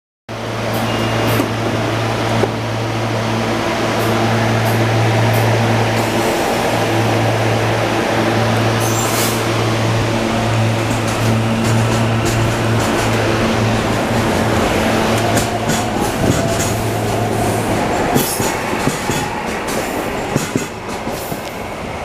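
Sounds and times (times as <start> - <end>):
electric train hum: 0.3 - 22.0
train wheels rolling on rails: 0.4 - 22.0.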